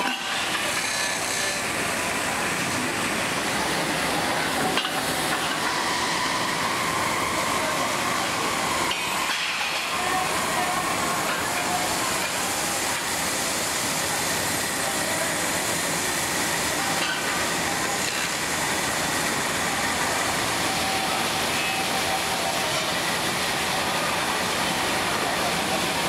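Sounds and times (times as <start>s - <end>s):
metal lathe cutting metal: 0.0s - 26.0s.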